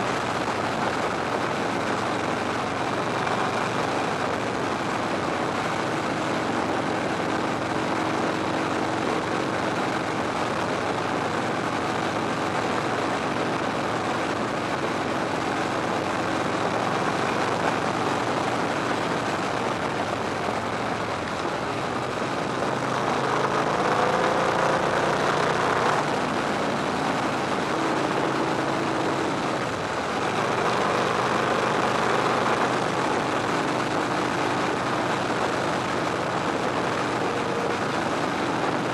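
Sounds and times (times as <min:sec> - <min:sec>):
v-twin motorcycle engine running: 0:00.0 - 0:38.9
wind rush on microphone: 0:00.0 - 0:38.9.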